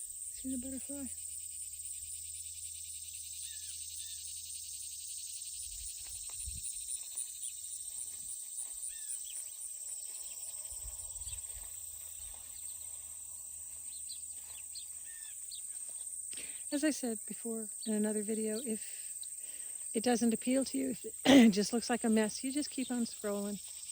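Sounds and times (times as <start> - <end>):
insect chorus trilling: 0.0 - 23.9.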